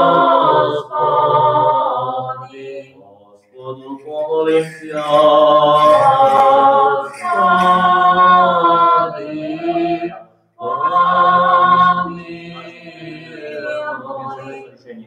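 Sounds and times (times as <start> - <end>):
unaccompanied chant singing: 0.0 - 15.0.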